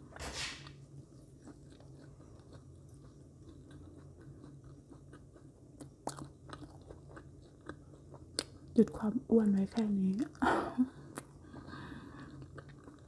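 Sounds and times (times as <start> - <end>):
low steady hum: 0.0 - 13.0
person chewing marshmallow: 0.8 - 13.0.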